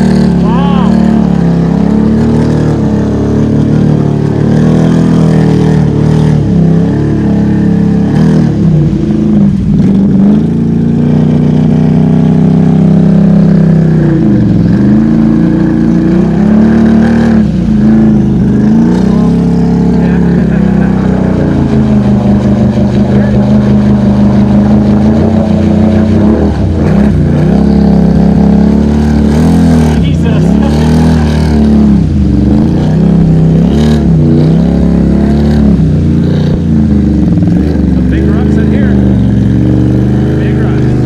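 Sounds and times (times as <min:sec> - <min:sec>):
quad engine revving: 0:00.0 - 0:41.0.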